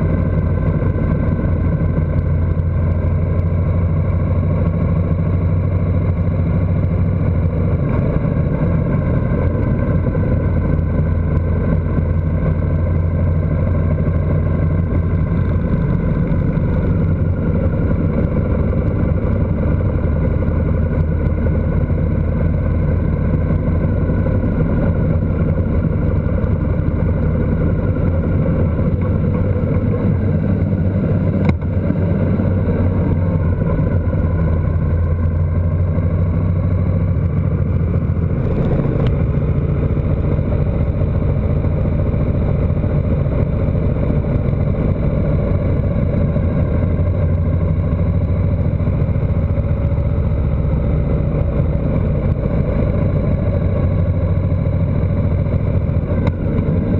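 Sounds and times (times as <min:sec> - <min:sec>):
motorcycle engine cruising: 0:00.0 - 0:56.9
wind and road rush: 0:00.0 - 0:56.9.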